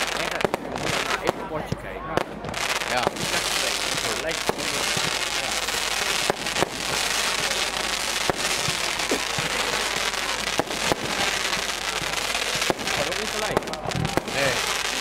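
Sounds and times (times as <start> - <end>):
fireworks bangs: 0.0 - 15.0
fireworks hiss and crackle: 0.0 - 15.0.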